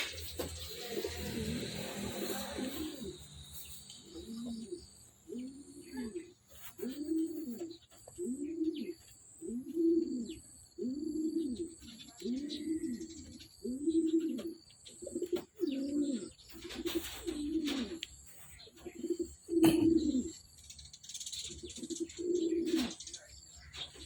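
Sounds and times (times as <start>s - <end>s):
pigeon cooing: 0.0s - 18.1s, 18.8s - 20.4s, 21.6s - 24.0s.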